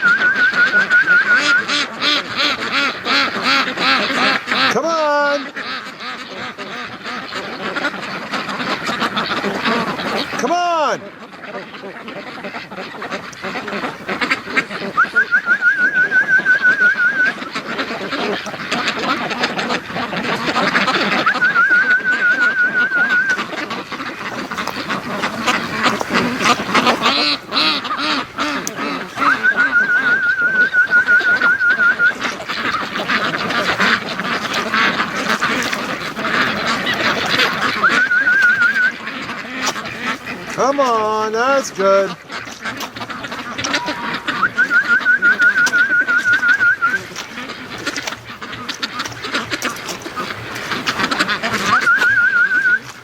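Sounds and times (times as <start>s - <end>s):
ducks quacking: 0.0s - 53.0s.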